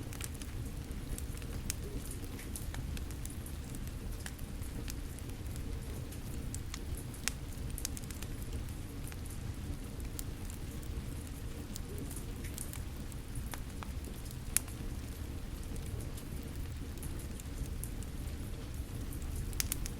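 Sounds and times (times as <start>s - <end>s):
falling rain rumble: 0.0s - 19.9s
wood fire crackling and popping: 0.0s - 19.9s.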